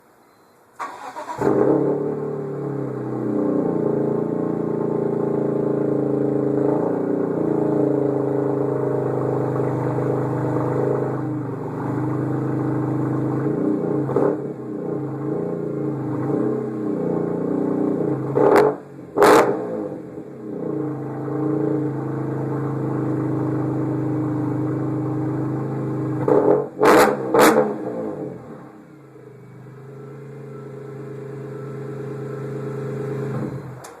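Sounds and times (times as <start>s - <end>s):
car engine idling and revving: 0.8s - 34.0s.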